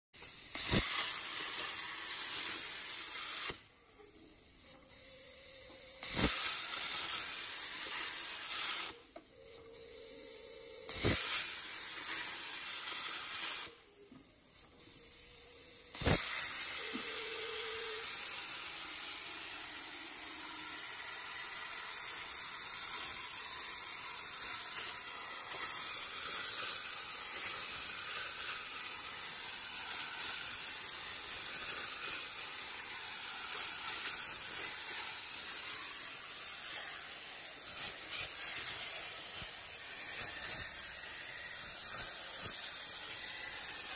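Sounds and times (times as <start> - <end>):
plasma torch ignition crack: 0.2 - 3.7, 5.9 - 9.1, 10.7 - 13.8, 15.9 - 43.9
plasma torch hissing: 0.2 - 43.9.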